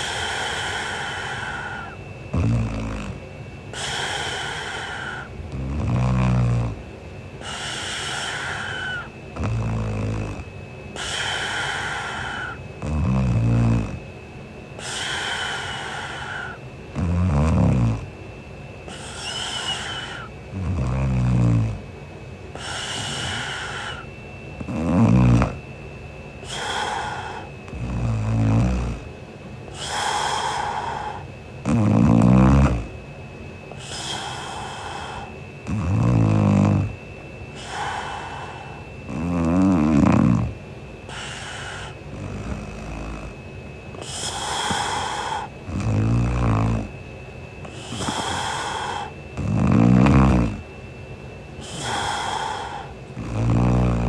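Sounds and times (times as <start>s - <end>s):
woman snoring: 0.0s - 14.1s, 14.8s - 18.2s, 18.8s - 22.0s, 22.6s - 25.7s, 26.4s - 33.0s, 33.7s - 47.0s, 47.6s - 50.7s, 51.6s - 54.0s
breathy breath: 0.0s - 14.2s, 14.8s - 18.1s, 18.8s - 21.9s, 22.5s - 25.7s, 26.4s - 33.0s, 33.7s - 54.0s.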